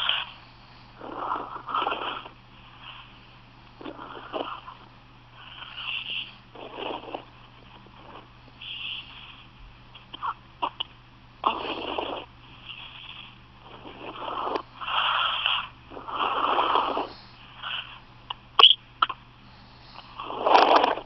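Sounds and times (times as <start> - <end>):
noisy breathing: 0.0 - 10.8, 11.4 - 21.0.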